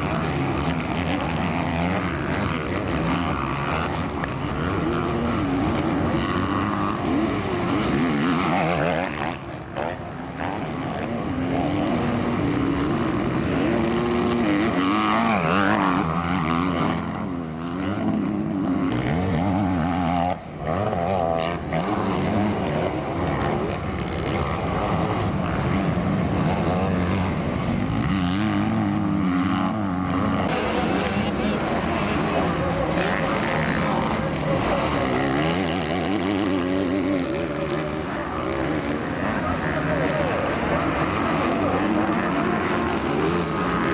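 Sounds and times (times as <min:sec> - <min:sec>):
motocross bike engines revving: 0:00.0 - 0:43.9.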